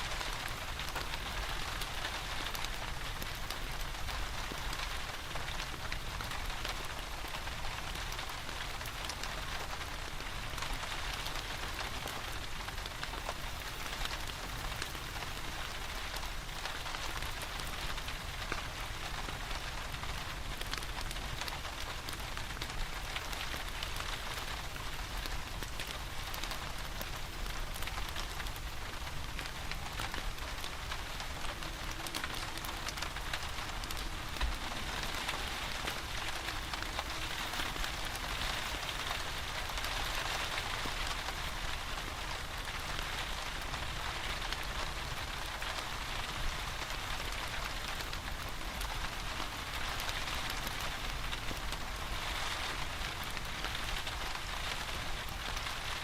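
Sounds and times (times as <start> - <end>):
steady rain: 0.0 - 56.0
wood fire burning: 0.0 - 56.0.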